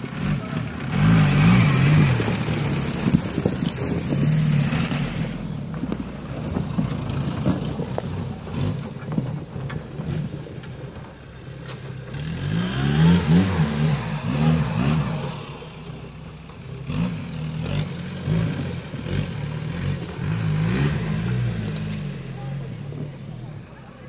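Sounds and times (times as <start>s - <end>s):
buggy engine revving hard: 0.0s - 24.0s.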